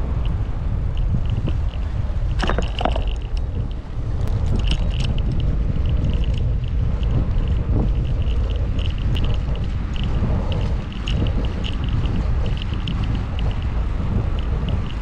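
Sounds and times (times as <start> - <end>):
road and tyre noise: 0.0 - 15.0
wind rumbling on microphone: 0.0 - 15.0.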